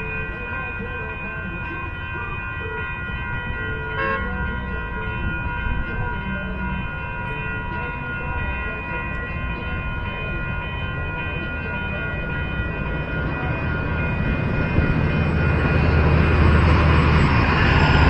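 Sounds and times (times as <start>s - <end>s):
diesel train rumble: 0.0s - 18.0s
railroad crossing bells ringing: 0.0s - 18.0s.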